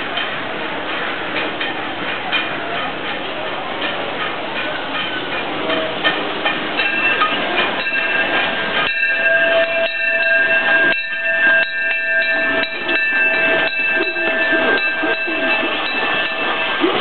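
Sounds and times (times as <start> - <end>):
train wheels clattering over track: 0.0 - 17.0.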